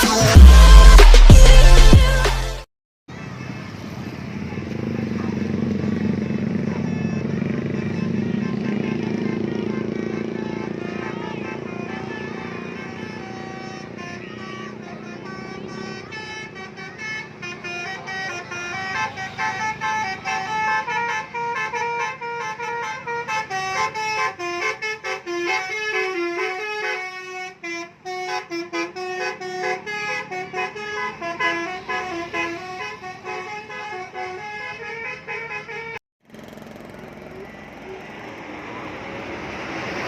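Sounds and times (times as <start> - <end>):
multi-tone bus air horn melody: 0.0 - 2.7, 6.0 - 36.0.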